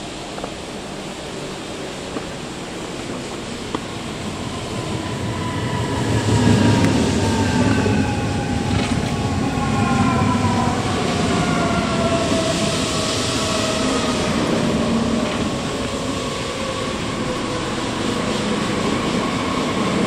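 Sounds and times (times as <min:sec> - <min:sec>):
electric train drive whine: 0:00.0 - 0:20.0
train wheels rumbling on rails: 0:00.0 - 0:20.0.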